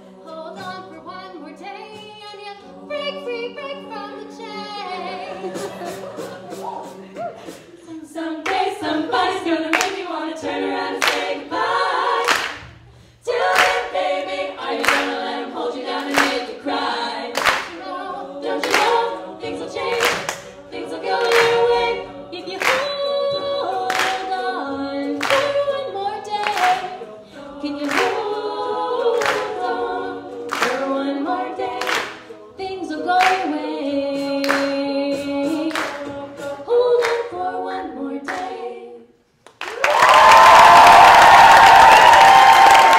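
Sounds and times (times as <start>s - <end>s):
vocal group singing in harmony: 0.0s - 42.9s.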